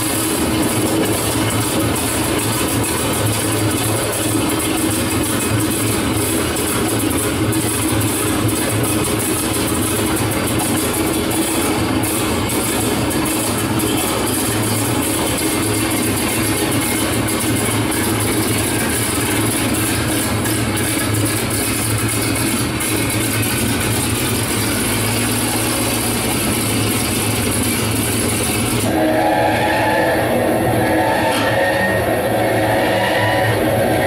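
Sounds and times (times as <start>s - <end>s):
aircraft piston engine running: 0.0s - 34.0s.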